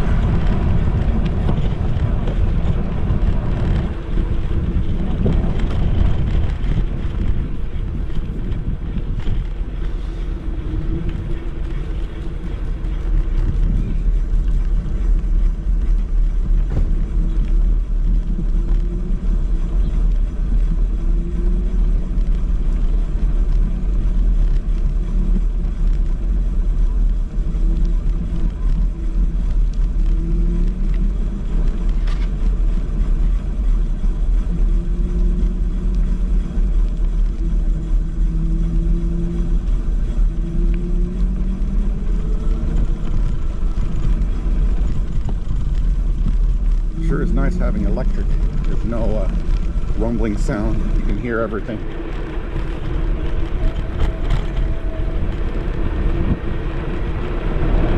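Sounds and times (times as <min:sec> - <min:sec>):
wind and road rumble: 0:00.0 - 0:57.9.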